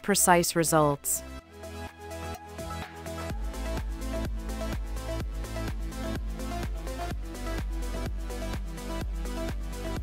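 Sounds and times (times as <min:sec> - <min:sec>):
electronic dance music: 0:01.5 - 0:10.0.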